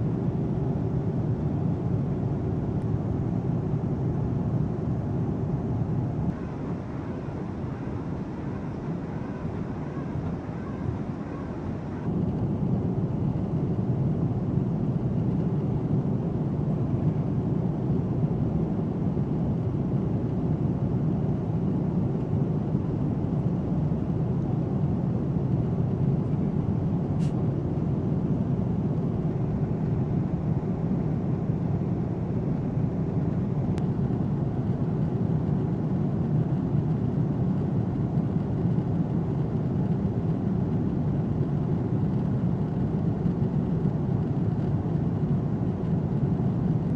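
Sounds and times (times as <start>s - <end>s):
jet aircraft rumble: 0.0s - 46.9s.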